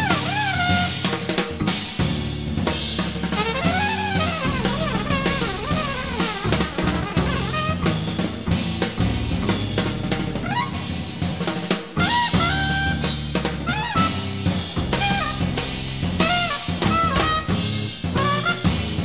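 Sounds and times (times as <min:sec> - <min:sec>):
trumpet bending notes: 0:00.0 - 0:01.6, 0:03.2 - 0:08.5, 0:09.8 - 0:11.2, 0:12.0 - 0:19.0
bass notes: 0:00.0 - 0:19.0
busy jazz drumming: 0:00.0 - 0:19.0.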